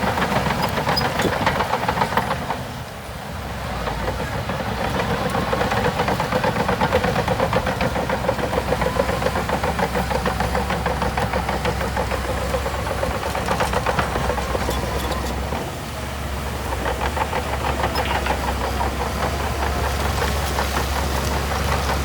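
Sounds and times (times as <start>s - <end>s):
diesel engine knocking: 0.0s - 22.0s.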